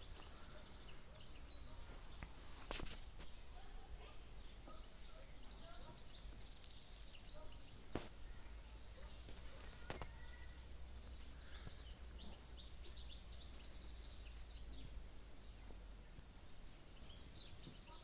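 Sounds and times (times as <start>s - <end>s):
faint outdoor background noise: 0.0s - 18.0s
small birds chirping: 0.0s - 18.0s.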